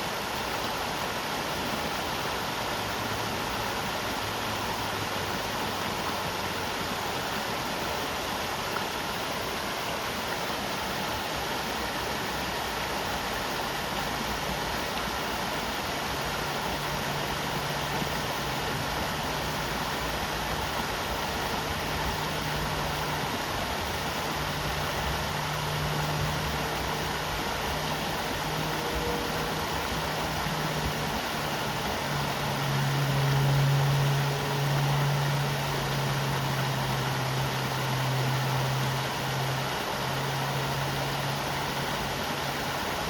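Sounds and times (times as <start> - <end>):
low steady engine hum: 0.0 - 43.0
river water rushing: 0.0 - 43.0.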